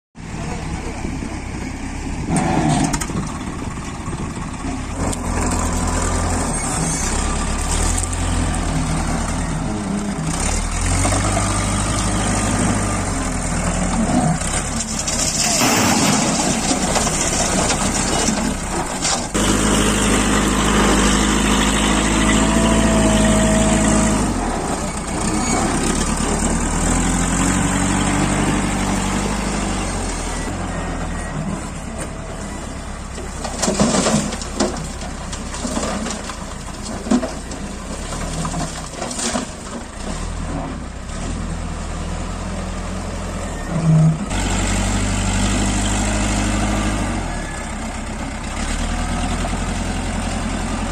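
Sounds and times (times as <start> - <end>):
backhoe diesel engine: 0.2 - 50.9.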